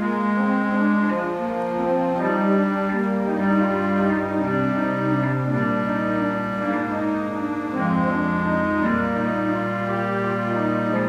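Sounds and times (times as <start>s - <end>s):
pipe organ playing chords: 0.0s - 11.0s.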